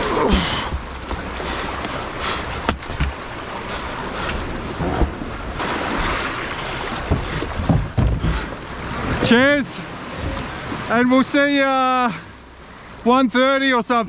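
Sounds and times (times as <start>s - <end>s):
sea surging around rocks: 0.0s - 14.0s.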